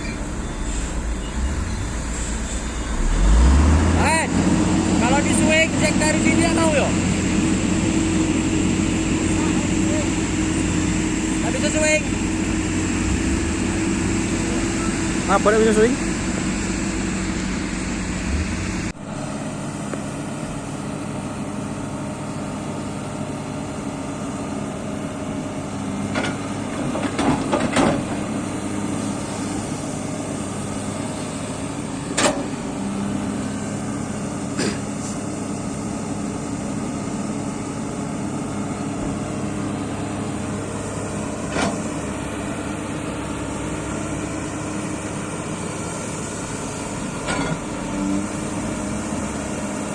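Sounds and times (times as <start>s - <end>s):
excavator diesel engine rumble: 0.0s - 49.9s.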